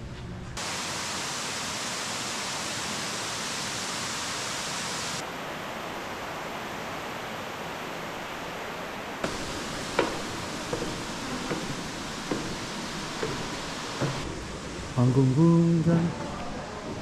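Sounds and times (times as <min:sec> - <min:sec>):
waterfall rushing: 0:00.6 - 0:17.0.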